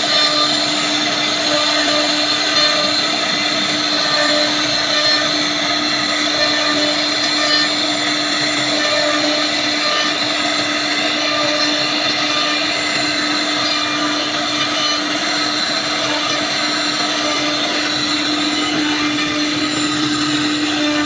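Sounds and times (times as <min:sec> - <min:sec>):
wood router whining: 0:00.0 - 0:21.0.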